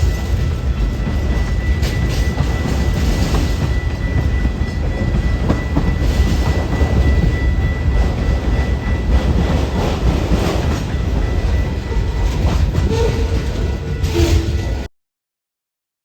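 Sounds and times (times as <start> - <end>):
train rumbling past: 0.0 - 14.9.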